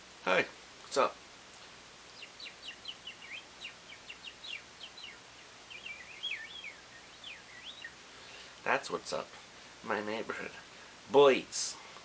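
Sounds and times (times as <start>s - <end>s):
robins chirping: 0.9s - 10.8s.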